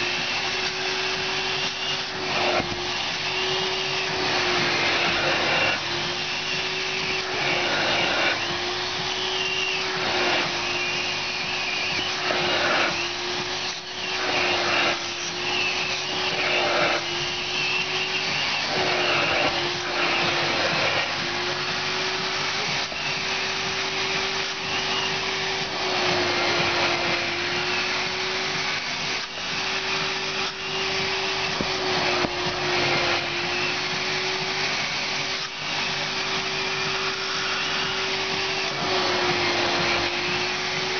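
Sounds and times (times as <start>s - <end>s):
vacuum motor running: 0.0s - 40.9s.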